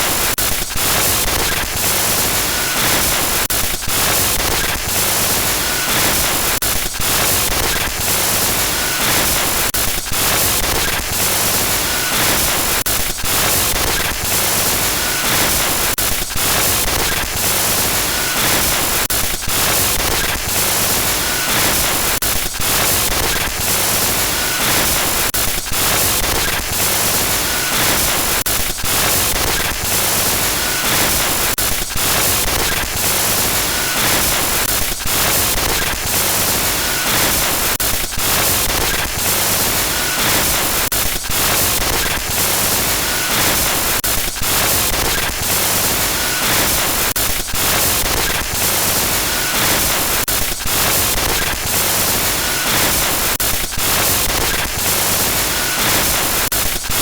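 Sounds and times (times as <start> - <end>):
electronic glitch static: 10.2 - 57.0.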